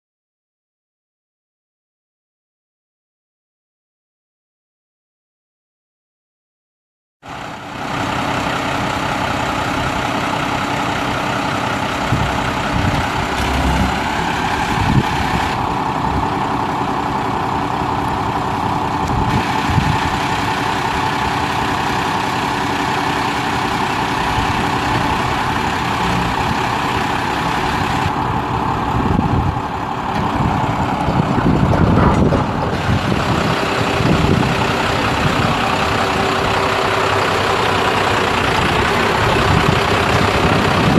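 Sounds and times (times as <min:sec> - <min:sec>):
diesel truck engine idling: 0:07.2 - 0:40.9.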